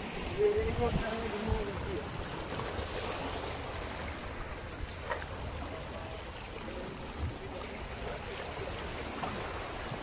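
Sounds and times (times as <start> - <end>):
sea water lapping: 0.0 - 10.0.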